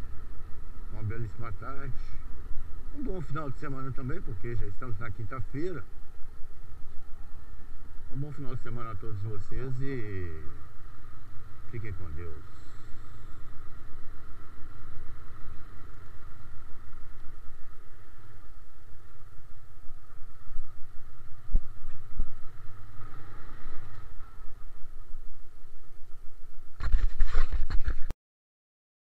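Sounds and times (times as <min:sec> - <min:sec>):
muffled motorcycle engine: 0:00.0 - 0:28.1.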